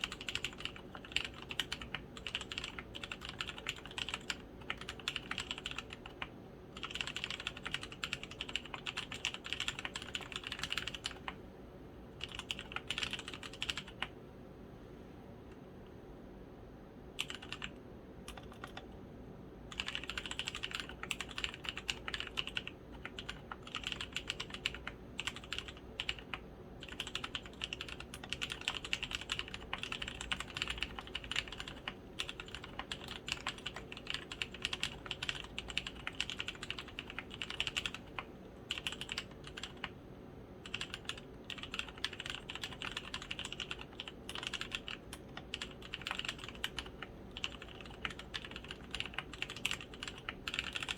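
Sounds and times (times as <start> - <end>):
mechanical keyboard typing: 0.0 - 11.4, 12.2 - 14.1, 17.2 - 18.9, 19.7 - 40.0, 40.6 - 50.9.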